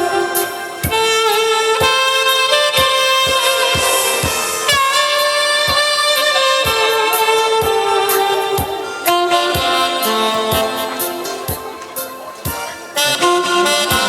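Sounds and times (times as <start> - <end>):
horn playing melody: 0.0 - 14.0
steady drum beat: 0.0 - 14.0.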